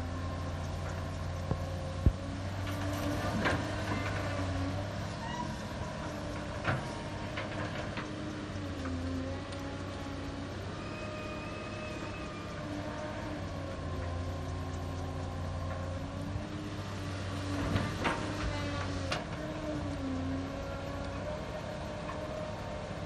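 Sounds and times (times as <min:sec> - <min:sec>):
excavator diesel engine running: 0:00.0 - 0:23.0
hydraulic whine: 0:00.0 - 0:23.0.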